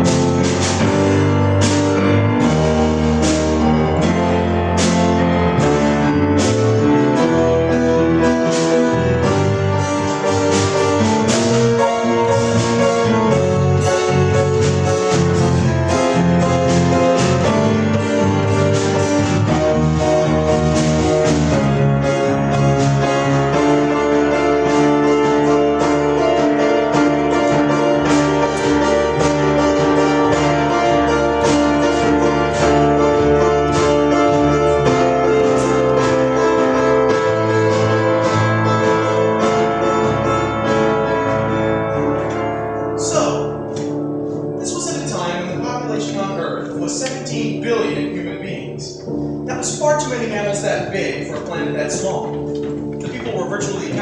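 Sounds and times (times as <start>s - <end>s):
piano piece: 0.0s - 54.0s.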